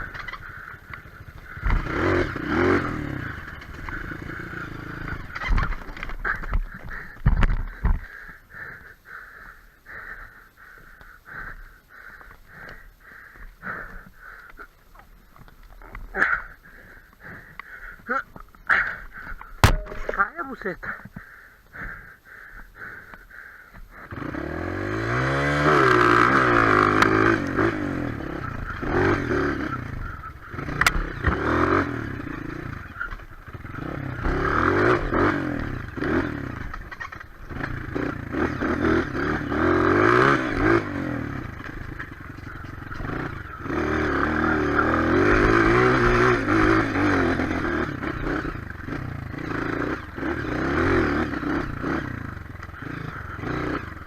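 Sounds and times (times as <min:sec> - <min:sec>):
motorcycle engine revving: 0:00.0 - 0:15.0, 0:15.8 - 0:54.0.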